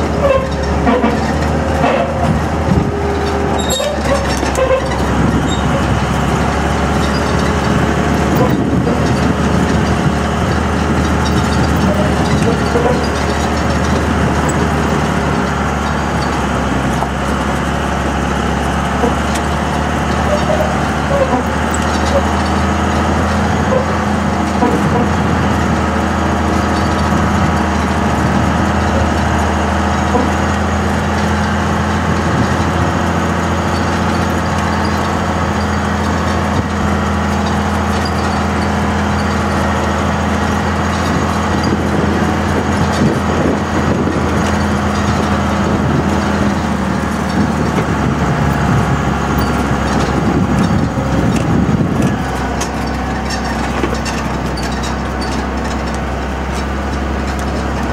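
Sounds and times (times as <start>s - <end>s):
diesel truck engine under load: 0.0s - 57.9s.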